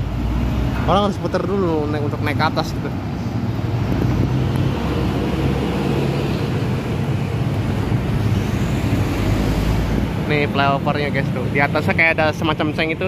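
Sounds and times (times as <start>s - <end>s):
truck and cars passing: 0.0s - 13.0s.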